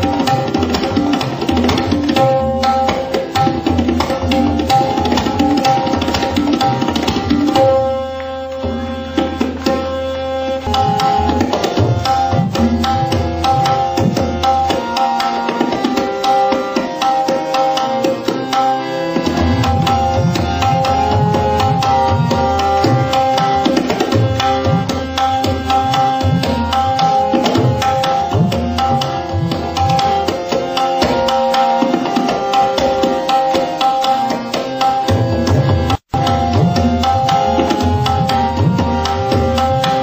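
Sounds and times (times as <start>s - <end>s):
fast tabla strokes: 0.0s - 40.0s.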